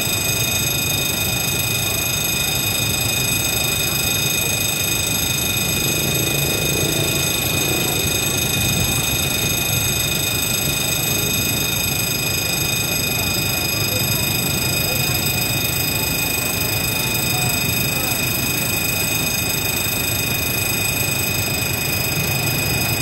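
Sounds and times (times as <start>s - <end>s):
distant locomotive engine rumble: 0.0s - 23.0s
high-pitched ringing tone: 0.0s - 23.0s.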